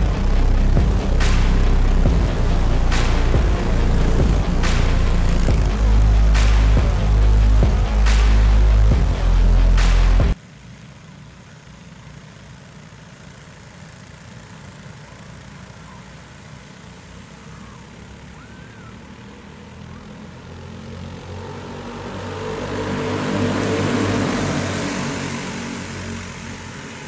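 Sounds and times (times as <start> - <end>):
go-kart engines running: 0.0 - 27.0.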